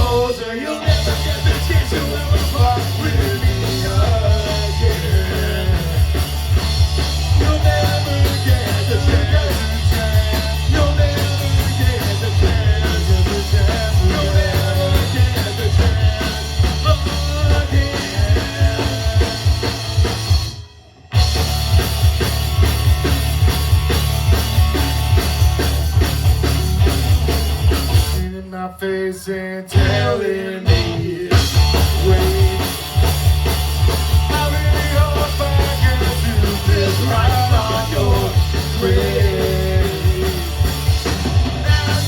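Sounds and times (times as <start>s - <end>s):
punk rock band playing: 0.0s - 28.7s, 29.6s - 42.0s.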